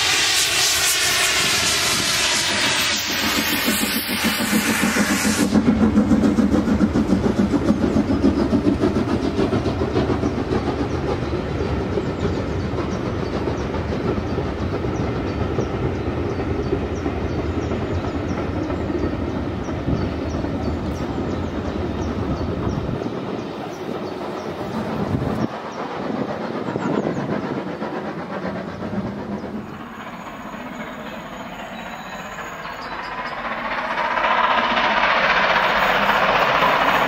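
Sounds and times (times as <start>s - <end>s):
steam locomotive hiss: 0.0s - 37.0s
train wheels beating over rail joints: 0.0s - 37.0s.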